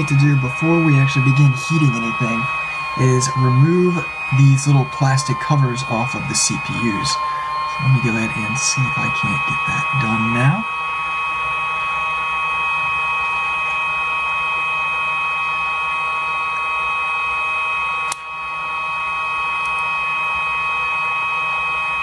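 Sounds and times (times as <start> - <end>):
high-pitched electrical whine: 0.0 - 22.0.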